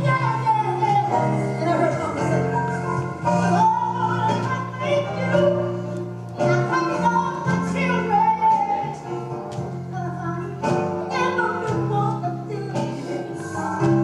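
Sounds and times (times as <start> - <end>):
instrumental backing with bass line: 0.0 - 14.0
woman singing: 0.0 - 14.0.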